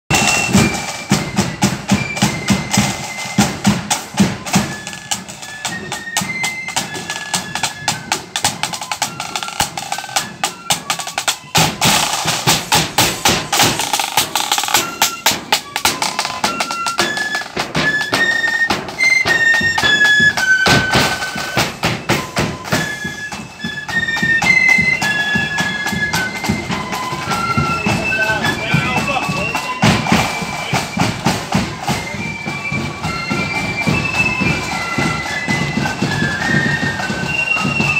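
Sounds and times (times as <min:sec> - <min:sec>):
flutes playing a tune: 0:00.1 - 0:37.9
marching drums and cymbals: 0:00.1 - 0:37.9.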